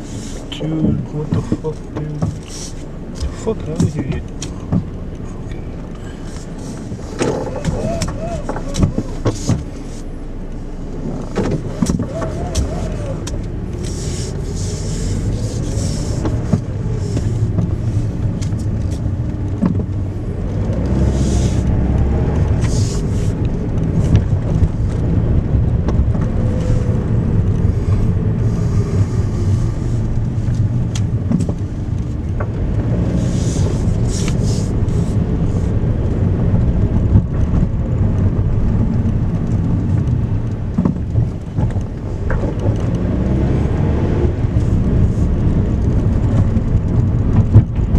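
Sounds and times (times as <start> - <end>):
car engine and tyre noise: 0.0 - 47.9.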